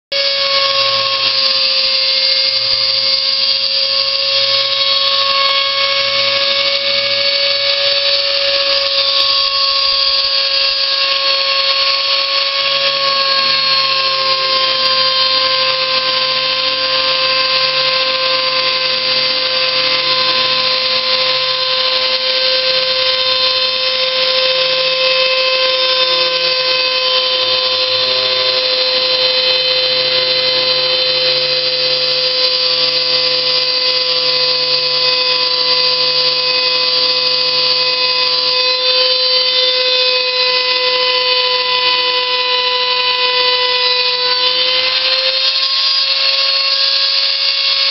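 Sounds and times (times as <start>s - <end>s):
high motor whine: 0.0s - 47.9s
low hum: 0.2s - 41.7s.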